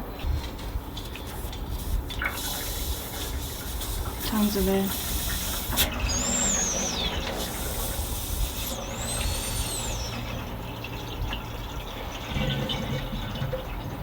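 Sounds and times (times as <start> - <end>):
steady low hum: 0.0 - 14.0
air hissing and whistling: 0.5 - 13.0.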